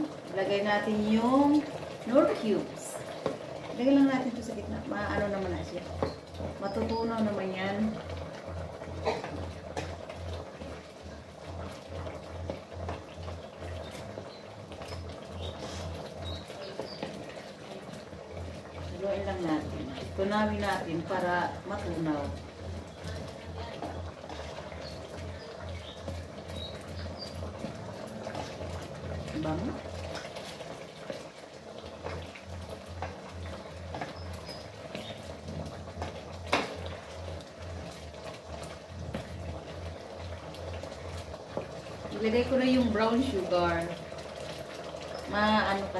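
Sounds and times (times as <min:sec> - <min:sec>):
sauce bubbling: 0:00.0 - 0:45.9
spatula stirring and scraping: 0:01.5 - 0:07.1, 0:08.3 - 0:18.9, 0:21.9 - 0:42.6.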